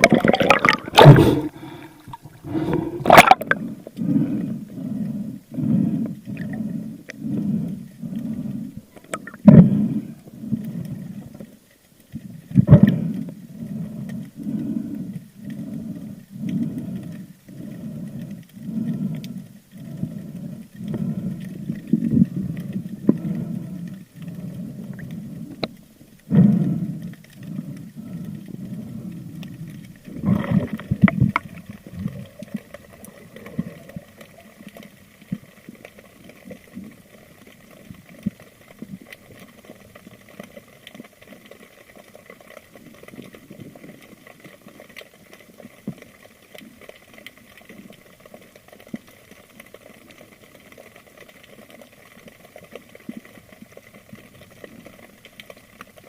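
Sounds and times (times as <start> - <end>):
water sloshing underwater: 0.0 - 56.0
faint crackling ticks: 3.4 - 56.0.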